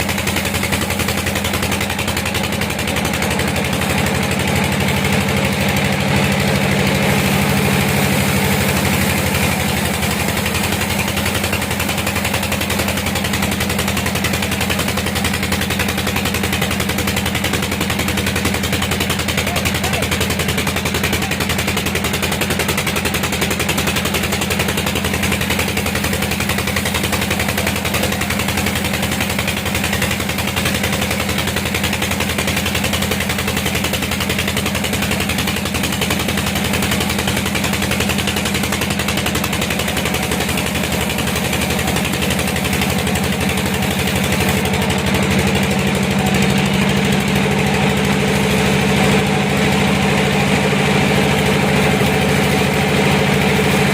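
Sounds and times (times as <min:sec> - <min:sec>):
sawmill engine rattling: 0:00.0 - 0:53.9.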